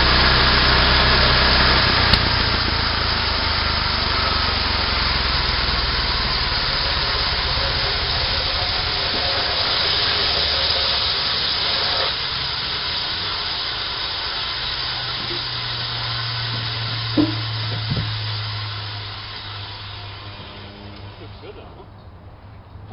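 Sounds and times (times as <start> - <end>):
saw blade hissing in wood: 0.0 - 21.6
small gasoline engine humming: 0.0 - 22.9.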